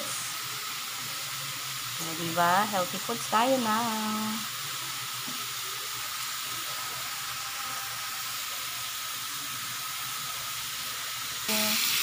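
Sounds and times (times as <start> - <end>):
chicken sizzling on a grill: 0.0 - 12.0.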